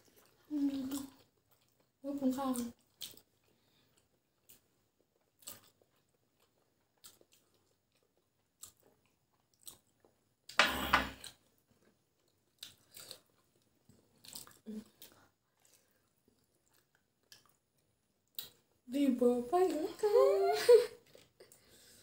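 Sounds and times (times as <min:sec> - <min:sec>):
mouth chewing clicks and smacks: 0:00.0 - 0:10.2, 0:11.2 - 0:18.8.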